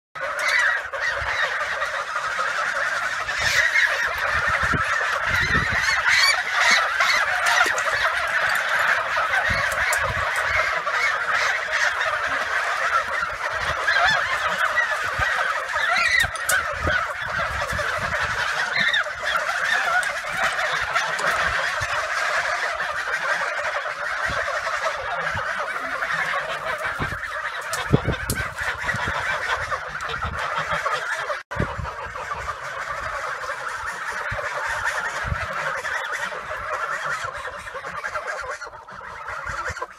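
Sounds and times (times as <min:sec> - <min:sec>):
geese honking: 0:00.2 - 0:39.9.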